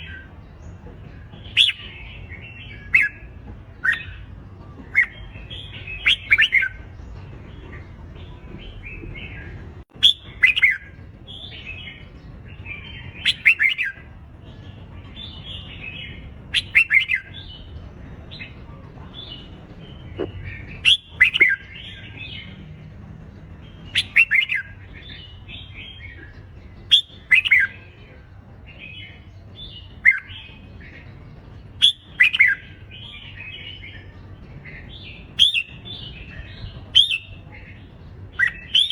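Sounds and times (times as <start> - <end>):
bulbuls singing warbled phrases: 0.0 - 38.9.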